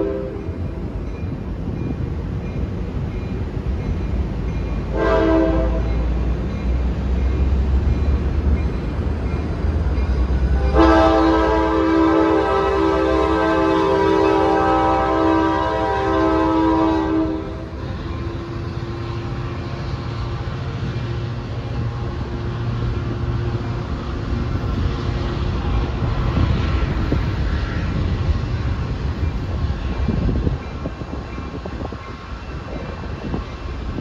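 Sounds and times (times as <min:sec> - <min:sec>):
diesel locomotive rumbling: 0:00.0 - 0:34.0
train wheels rolling on rails: 0:00.0 - 0:34.0.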